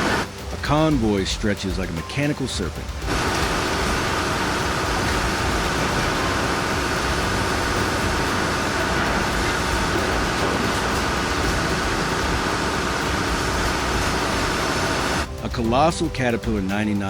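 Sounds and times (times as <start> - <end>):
heavy diesel machinery running: 0.0 - 15.4.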